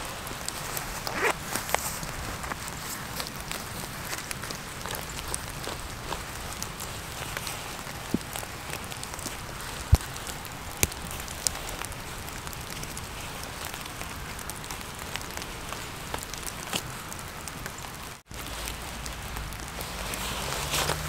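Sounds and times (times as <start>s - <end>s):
light rain pattering: 0.0s - 21.0s
raindrops ticking close by: 0.0s - 21.0s.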